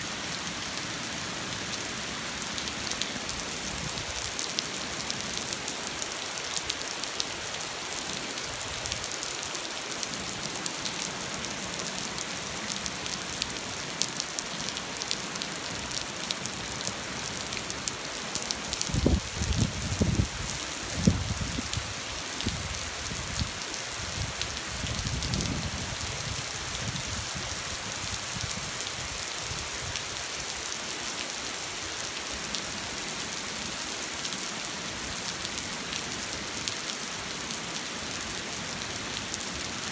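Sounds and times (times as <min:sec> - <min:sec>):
rain pattering: 0:00.2 - 0:39.9.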